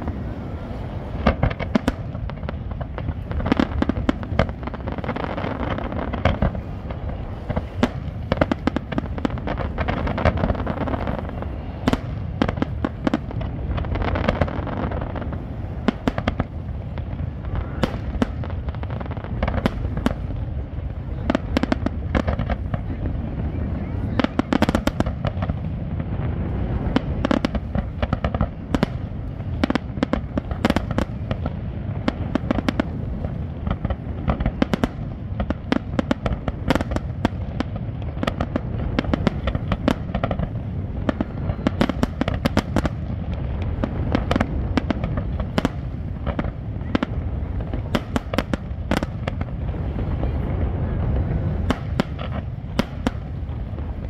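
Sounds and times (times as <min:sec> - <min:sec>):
fireworks bangs and crackles: 0:00.0 - 0:54.0
low rumble: 0:00.0 - 0:54.0.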